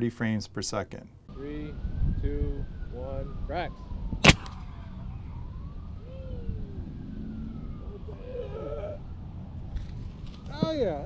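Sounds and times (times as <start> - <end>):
faint siren wailing: 1.3 - 11.0.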